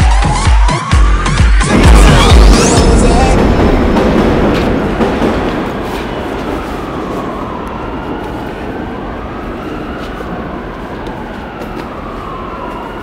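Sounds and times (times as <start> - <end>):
train rumbling on tracks: 1.7 - 12.5.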